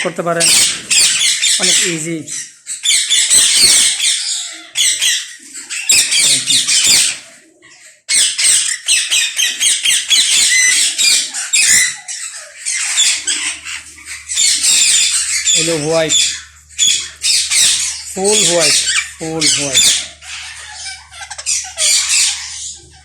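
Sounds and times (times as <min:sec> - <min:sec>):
parakeets screeching: 0:00.0 - 0:23.0.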